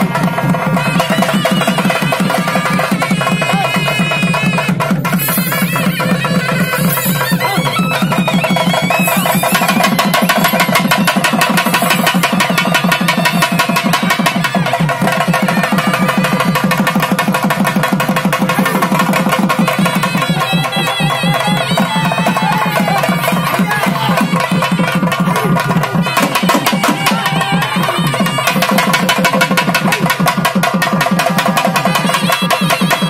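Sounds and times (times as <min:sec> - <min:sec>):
rapid drumming with sticks: 0:00.0 - 0:33.0.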